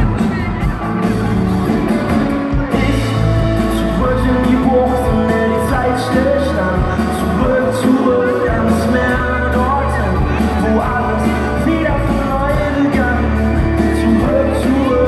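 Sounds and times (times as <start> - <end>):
drums: 0.0 - 15.0
electric and acoustic guitars: 0.0 - 15.0
keyboard: 0.0 - 15.0
person singing: 2.5 - 15.0.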